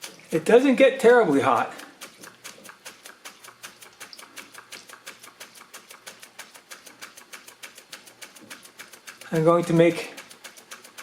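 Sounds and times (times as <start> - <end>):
toy steam engine clicking: 0.0 - 11.0.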